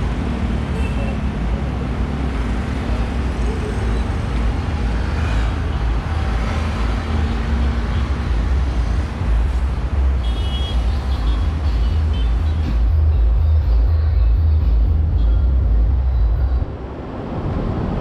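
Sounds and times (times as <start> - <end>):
road noise: 0.0 - 18.0
vehicle engines rumbling: 0.0 - 18.0.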